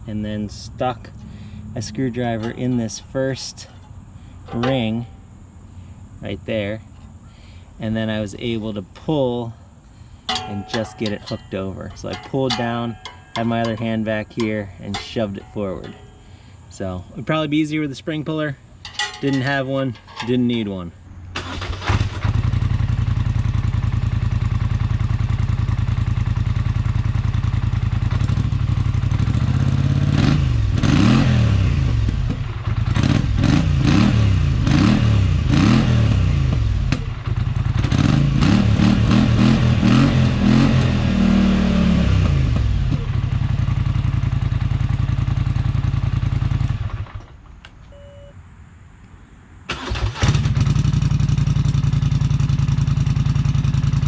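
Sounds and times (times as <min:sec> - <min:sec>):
atv engine idling and revving: 0:00.0 - 0:16.9, 0:21.7 - 0:47.4, 0:50.1 - 0:54.0.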